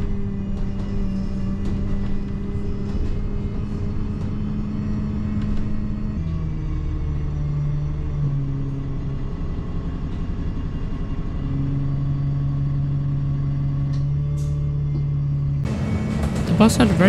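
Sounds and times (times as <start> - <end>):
bus engine humming: 0.0 - 17.0.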